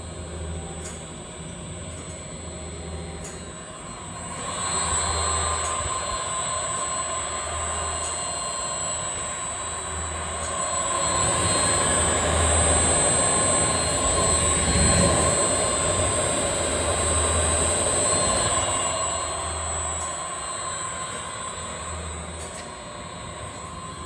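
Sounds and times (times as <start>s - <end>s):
blender motor hum with whine: 0.0s - 24.0s.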